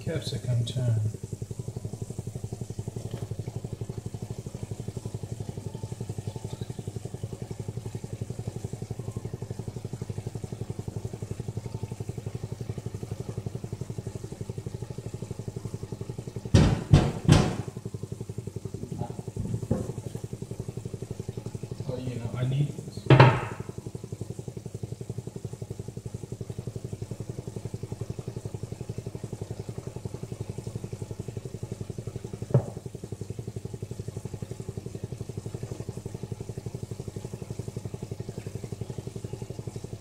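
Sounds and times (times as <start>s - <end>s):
pulsing motor hum: 0.0s - 40.0s.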